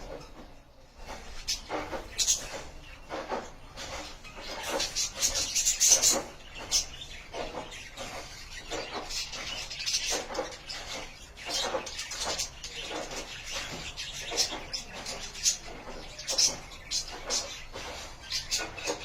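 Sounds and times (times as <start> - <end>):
budgerigars chattering and chirping: 1.0 - 19.0.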